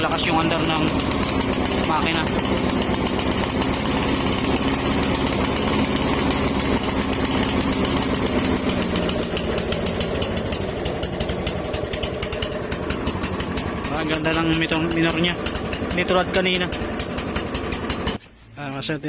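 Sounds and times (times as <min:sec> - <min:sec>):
lawn mower engine running: 0:00.0 - 0:18.5.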